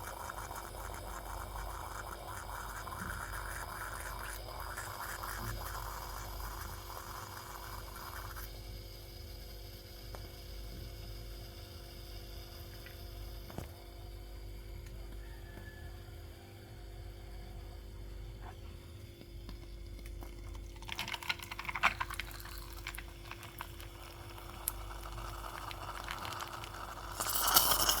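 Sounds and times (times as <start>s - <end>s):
steady hum: 0.0s - 15.2s, 15.8s - 28.0s
coffee pot gurgling and sputtering: 0.0s - 28.0s.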